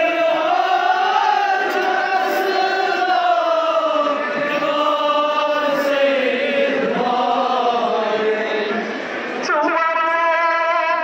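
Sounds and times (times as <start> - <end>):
men chanting together: 0.0 - 8.9.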